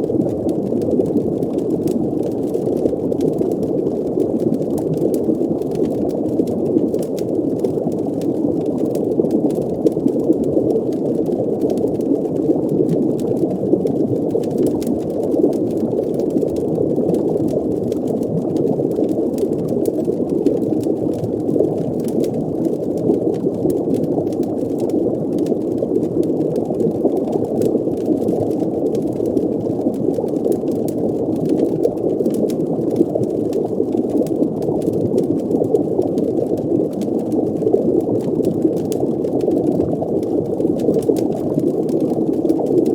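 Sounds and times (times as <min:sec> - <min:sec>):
water bubbling: 0:00.0 - 0:42.9.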